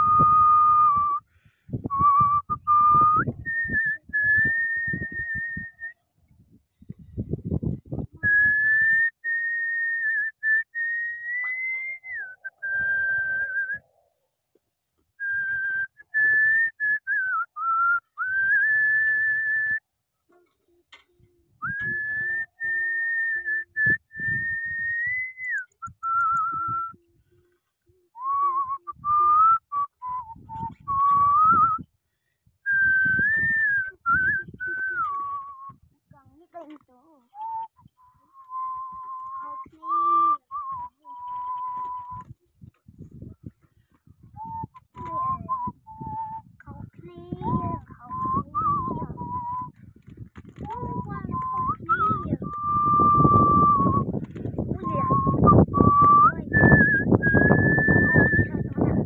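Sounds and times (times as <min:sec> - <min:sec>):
person whistling a slow tune: 0:00.0 - 0:06.0, 0:08.0 - 0:13.9, 0:15.2 - 0:19.8, 0:21.5 - 0:35.9, 0:37.3 - 0:59.0.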